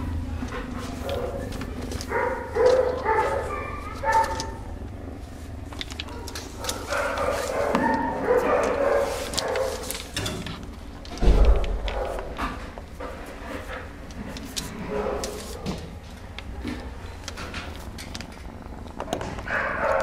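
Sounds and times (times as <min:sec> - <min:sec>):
dogs barking and yelping: 0:00.0 - 0:10.3, 0:10.9 - 0:13.0, 0:13.6 - 0:17.0, 0:19.1 - 0:20.0
kitten purring: 0:00.1 - 0:20.0
hand rustles and clicks: 0:00.4 - 0:20.0.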